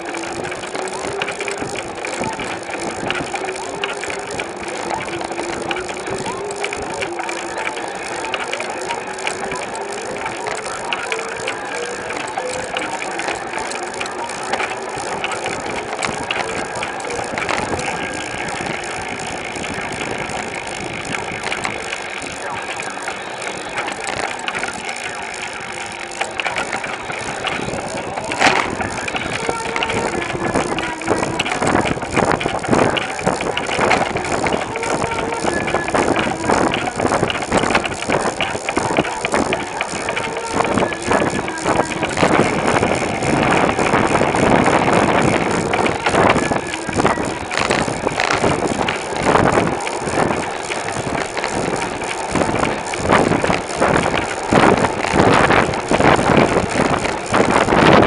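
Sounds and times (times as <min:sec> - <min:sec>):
bicycle tyre and drivetrain noise: 0:00.0 - 0:58.0
freewheel ticking: 0:00.0 - 0:58.0
riders' voices: 0:00.0 - 0:58.0
sharp clicks: 0:00.0 - 0:58.0.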